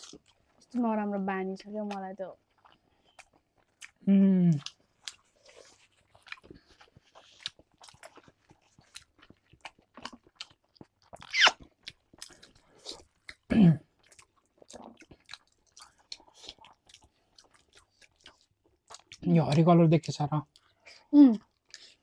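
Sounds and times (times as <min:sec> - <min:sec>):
people chewing with wet smacks: 0:00.0 - 0:22.0.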